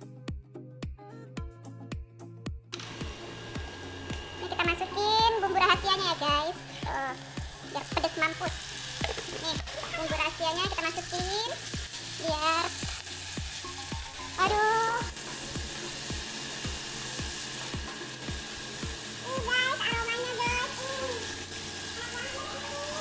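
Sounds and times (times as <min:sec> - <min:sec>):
shallots sizzling in hot oil: 0:02.8 - 0:23.0.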